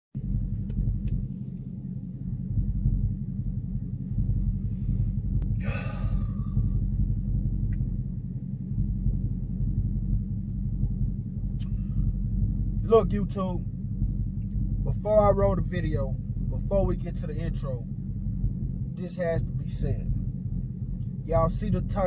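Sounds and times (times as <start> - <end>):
car engine idling: 0.2 - 22.0.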